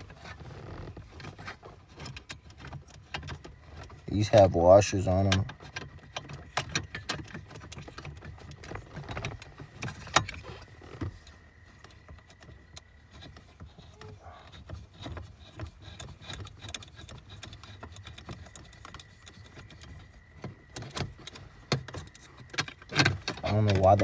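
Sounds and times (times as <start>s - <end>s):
small parts clicking and rattling: 0.0s - 24.0s.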